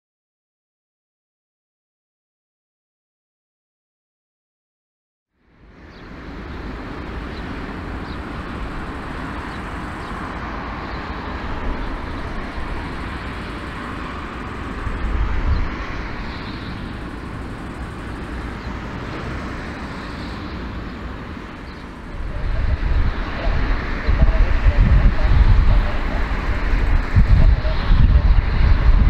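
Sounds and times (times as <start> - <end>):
jet engines rushing: 5.5 - 29.0
low engine rumble: 5.6 - 29.0.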